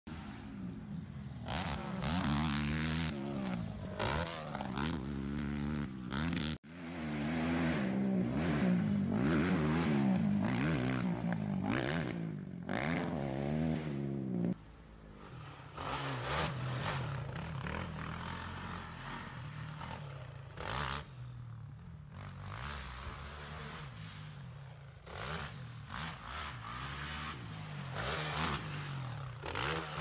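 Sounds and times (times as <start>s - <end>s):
quad engines revving: 1.4s - 14.6s, 15.2s - 30.0s.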